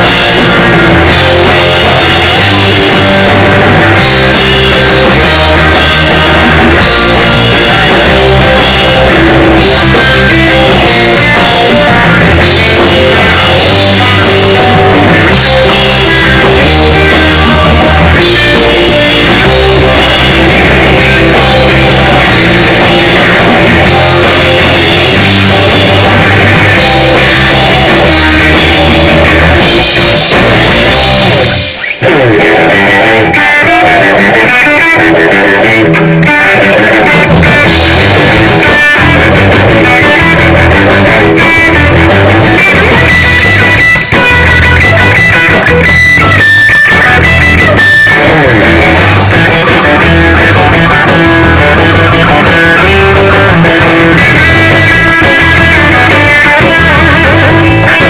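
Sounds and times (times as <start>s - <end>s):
bass guitar: 0.0s - 58.0s
drum kit: 0.0s - 58.0s
electric guitar: 0.0s - 58.0s.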